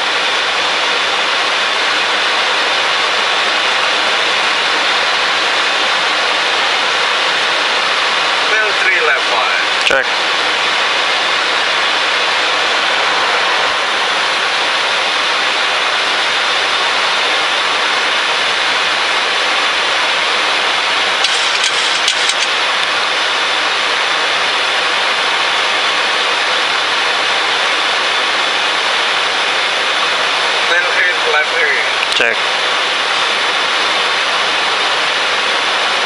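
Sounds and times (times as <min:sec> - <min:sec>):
rushing cockpit noise: 0:00.0 - 0:36.0.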